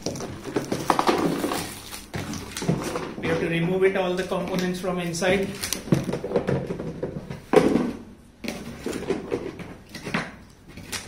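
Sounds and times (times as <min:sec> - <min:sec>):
plastic parts knocking and rattling: 0:00.0 - 0:11.0.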